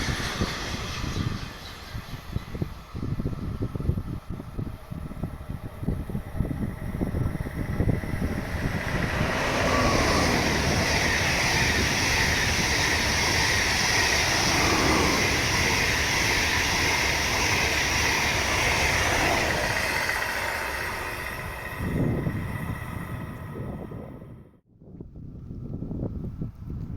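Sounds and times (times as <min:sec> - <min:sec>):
train wheel and rail noise: 0:00.0 - 0:24.5
wind buffeting microphone: 0:00.0 - 0:26.9.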